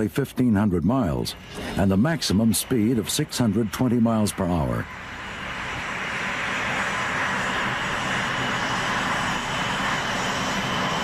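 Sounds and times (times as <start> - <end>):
faint high whine: 0.0 - 11.0
jet engine roaring: 0.0 - 11.0.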